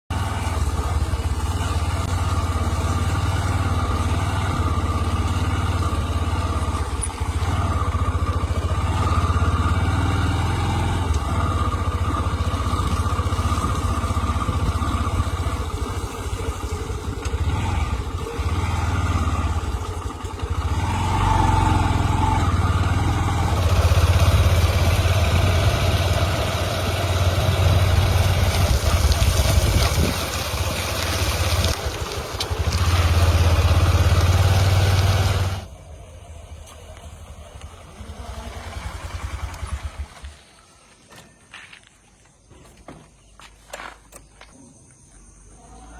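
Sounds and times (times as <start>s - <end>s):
heavy diesel engines droning: 0.1s - 42.8s.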